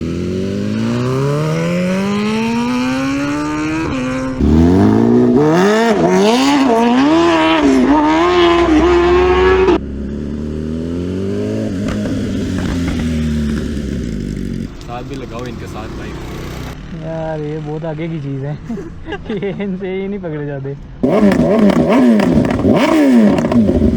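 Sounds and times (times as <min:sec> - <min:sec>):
motorcycle engine revving: 0:00.0 - 0:17.8, 0:21.0 - 0:23.9.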